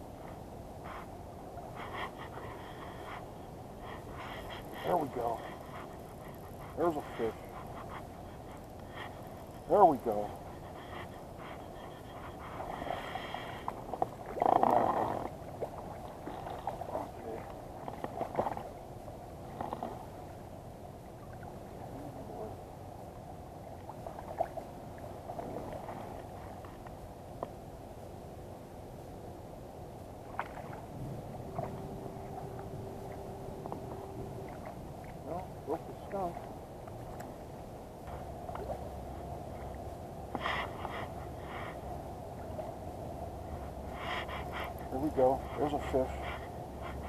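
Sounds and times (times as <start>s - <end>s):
water lapping and splashing: 0.0s - 27.6s, 30.1s - 47.0s
low background rumble: 0.0s - 47.0s.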